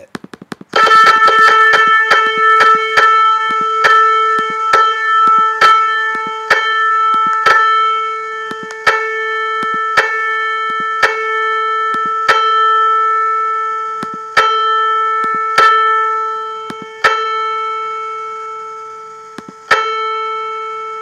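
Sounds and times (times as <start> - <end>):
piano note ringing: 0.0 - 21.0.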